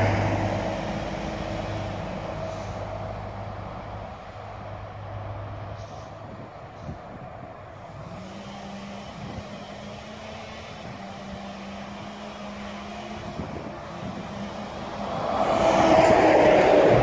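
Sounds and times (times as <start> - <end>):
heavy lorry engines humming: 0.0 - 17.0.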